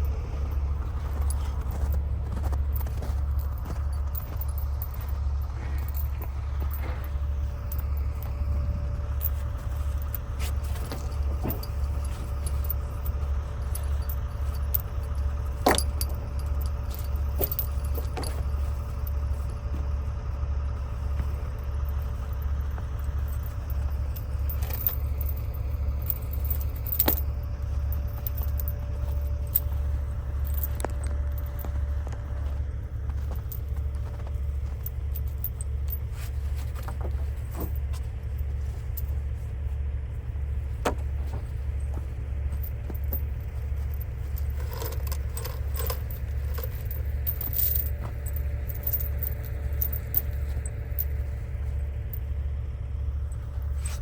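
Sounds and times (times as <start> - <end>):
diesel truck engine droning: 0.0 - 54.0
light rattles: 0.0 - 54.0.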